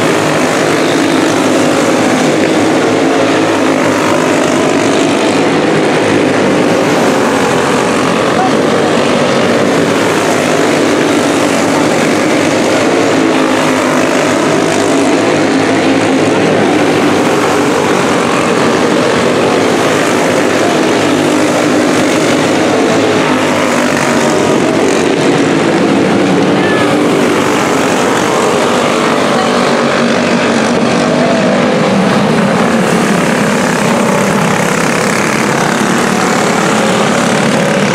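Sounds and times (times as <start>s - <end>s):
racing kart engines: 0.0s - 37.9s.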